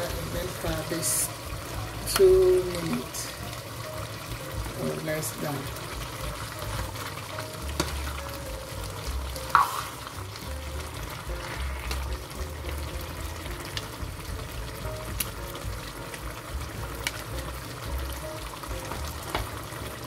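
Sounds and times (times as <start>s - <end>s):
stew sizzling in a frying pan: 0.0s - 20.0s.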